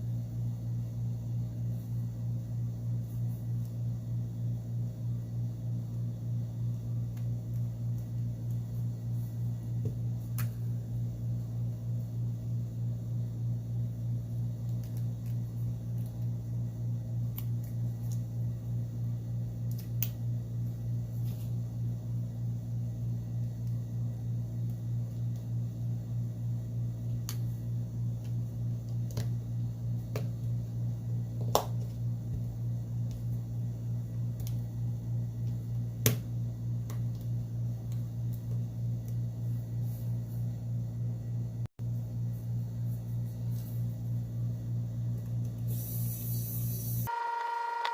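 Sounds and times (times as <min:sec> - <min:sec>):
low pulsing hum: 0:00.0 - 0:47.1.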